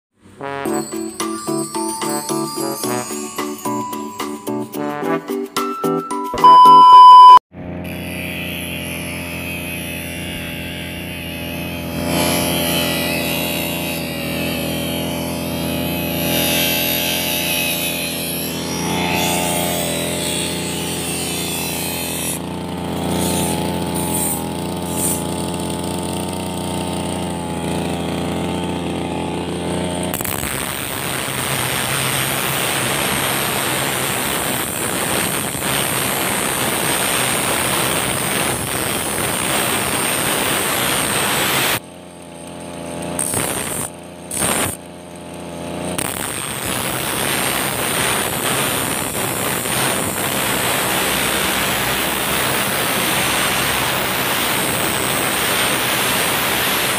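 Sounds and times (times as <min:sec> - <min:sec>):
brush cutter engine running: 0:07.6 - 0:56.9
grinding disc sharpening blade: 0:07.8 - 0:56.9.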